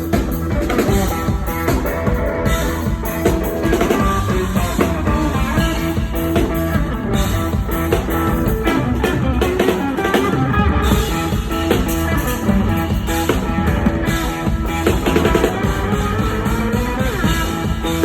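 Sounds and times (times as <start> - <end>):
drum kit: 0.0 - 18.0
guitar: 0.0 - 18.0
pop-rock band playing: 0.0 - 18.0.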